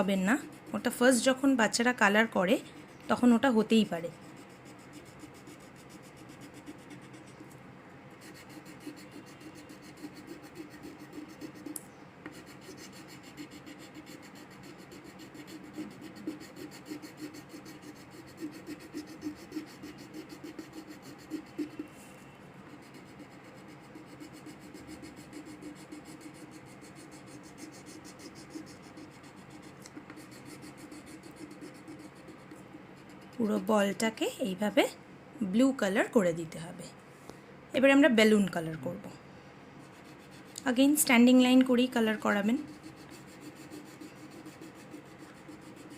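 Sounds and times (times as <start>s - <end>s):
pencil scratching on paper: 0.0s - 34.4s, 39.8s - 45.9s.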